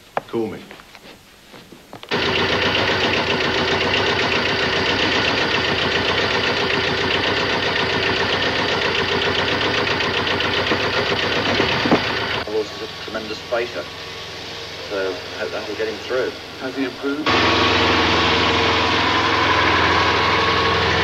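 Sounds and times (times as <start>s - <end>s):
diesel tractor engine running: 2.1s - 21.0s.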